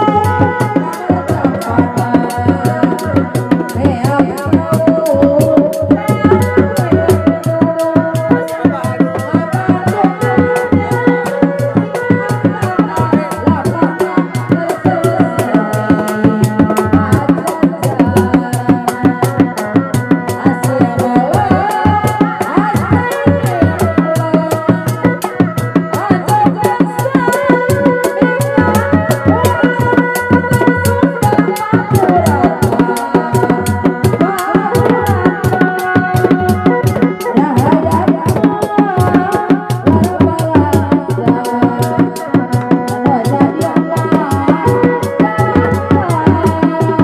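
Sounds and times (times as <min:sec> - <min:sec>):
drums beaten fast: 0:00.0 - 0:47.0.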